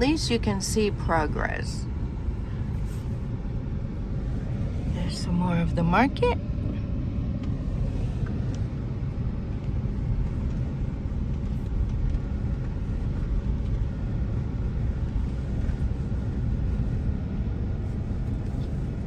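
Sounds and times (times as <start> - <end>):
car interior road noise: 0.0 - 19.0.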